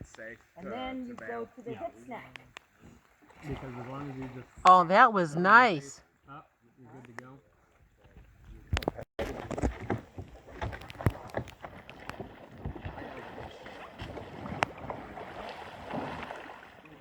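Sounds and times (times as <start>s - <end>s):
water splashing around a kayak: 0.0s - 5.0s, 6.1s - 17.0s.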